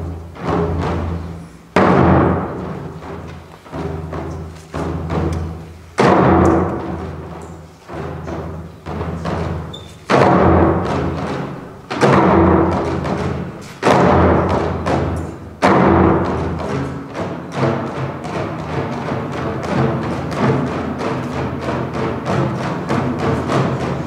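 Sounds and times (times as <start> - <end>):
fast steady drumbeat: 0.0 - 24.0
heavy booming drum strokes: 0.0 - 24.0.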